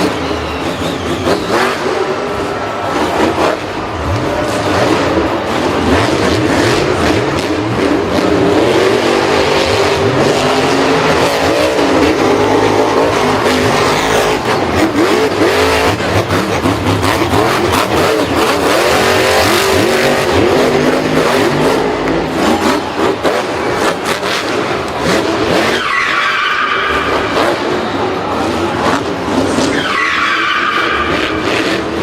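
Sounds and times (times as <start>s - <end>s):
several engines revving: 0.0s - 32.0s.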